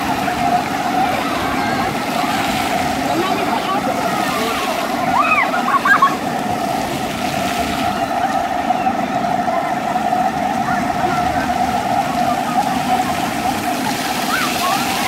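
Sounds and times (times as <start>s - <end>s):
faint children calling: 0.0s - 15.0s
fountain jets splashing on paving: 0.0s - 15.0s
steady hum: 0.0s - 15.0s.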